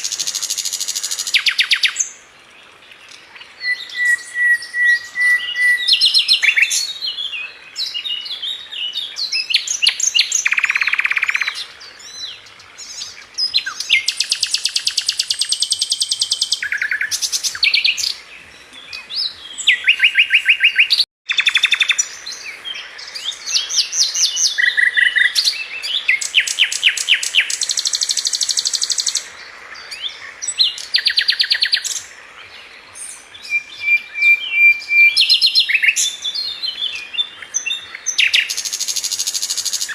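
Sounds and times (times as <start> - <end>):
songbird singing trills: 0.0 - 2.3, 3.0 - 39.9.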